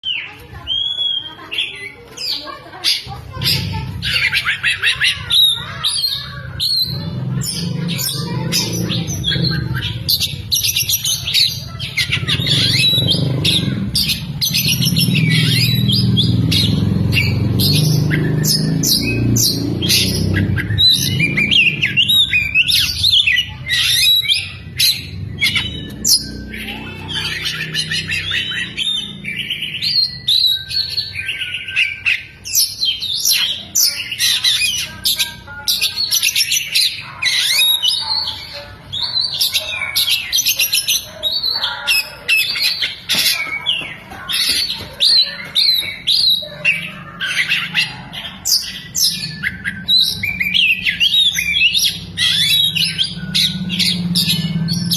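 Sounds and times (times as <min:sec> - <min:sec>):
bird singing chattering song: 0:00.0 - 0:54.9.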